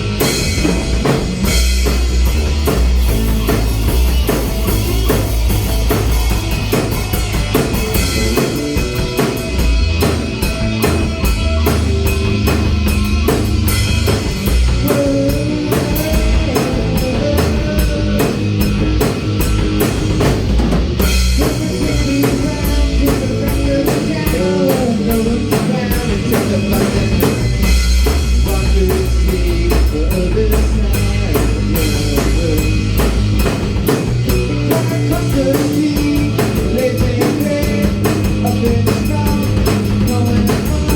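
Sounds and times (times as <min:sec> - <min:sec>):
drum kit beat: 0:00.0 - 0:40.9
rock band playing: 0:00.0 - 0:40.9.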